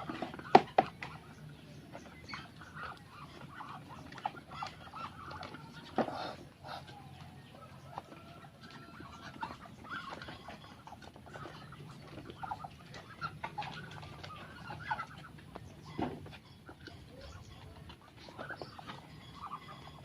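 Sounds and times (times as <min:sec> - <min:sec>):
poultry clucking: 0:00.0 - 0:20.0.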